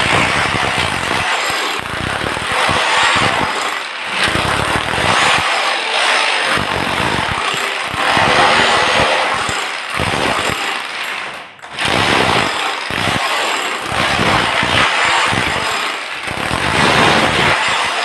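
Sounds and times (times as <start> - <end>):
power tool running: 0.0 - 18.0.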